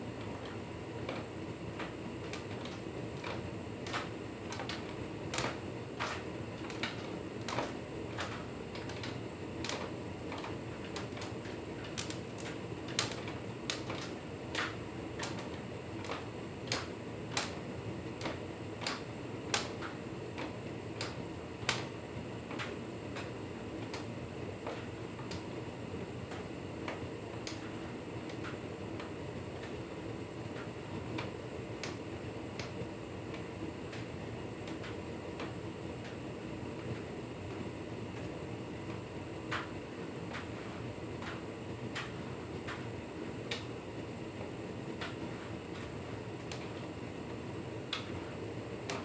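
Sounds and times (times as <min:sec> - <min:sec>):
sharp clicks in dryer: 0:00.2 - 0:25.6, 0:26.2 - 0:29.9, 0:30.5 - 0:36.2, 0:36.8 - 0:43.8, 0:44.9 - 0:47.0, 0:47.8 - 0:49.0.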